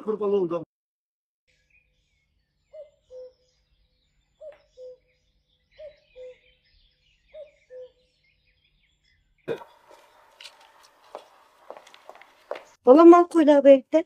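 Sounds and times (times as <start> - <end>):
small birds chirping: 1.5 - 14.0.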